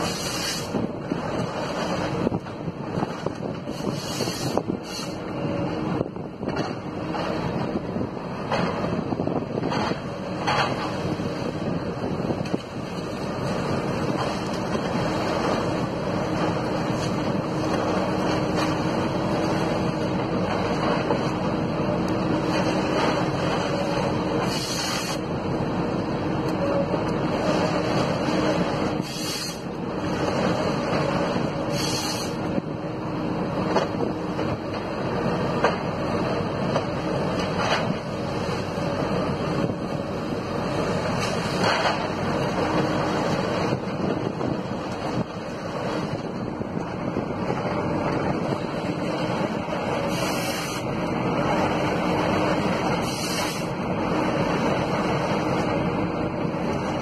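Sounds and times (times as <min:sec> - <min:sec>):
diesel engine and hydraulics: 0:00.0 - 0:57.0
wind buffeting microphone: 0:00.7 - 0:24.5, 0:32.4 - 0:57.0.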